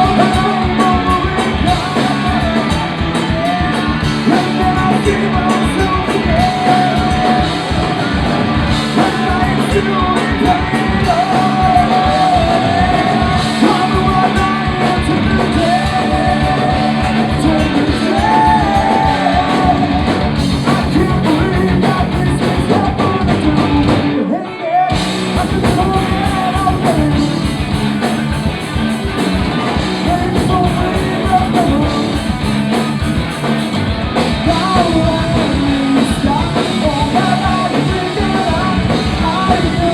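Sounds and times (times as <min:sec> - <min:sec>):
sung and shouted vocals: 0:00.0 - 0:28.6, 0:34.4 - 0:39.9
punk rock band playing: 0:00.0 - 0:39.9.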